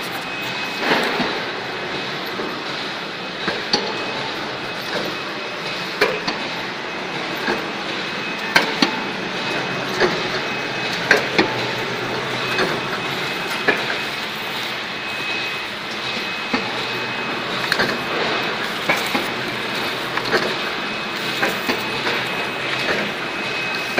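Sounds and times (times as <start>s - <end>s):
die-cutting machine running: 0.0s - 23.9s
sharp clanks and clicks: 0.0s - 23.9s.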